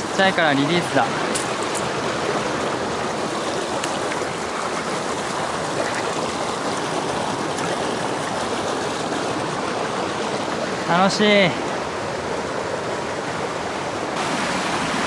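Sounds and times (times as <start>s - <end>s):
mountain stream flowing: 0.0s - 15.0s.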